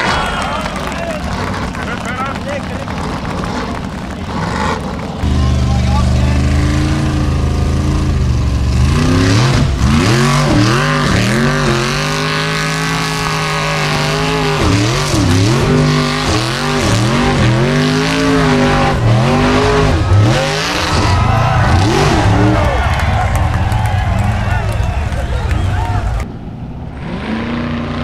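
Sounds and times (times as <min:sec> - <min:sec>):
buggy engine revving hard: 0:00.0 - 0:26.3, 0:26.9 - 0:28.0.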